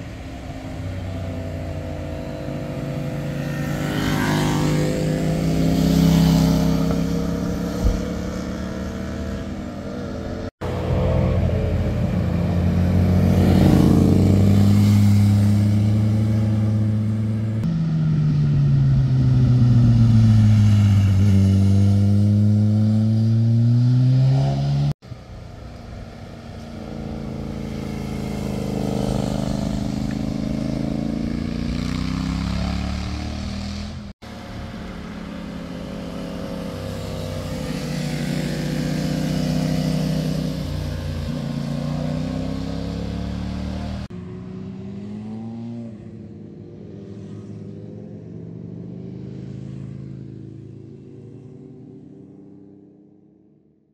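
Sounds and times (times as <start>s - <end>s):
motorcycles passing by: 0.0s - 53.2s.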